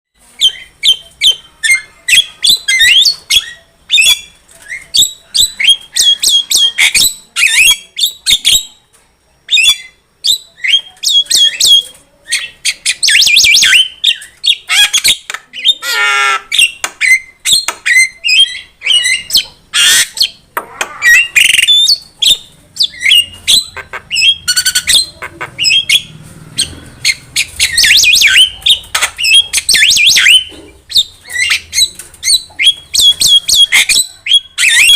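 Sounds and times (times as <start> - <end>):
bird whistles chatter and squawks: 0.4 - 8.8, 9.5 - 34.9.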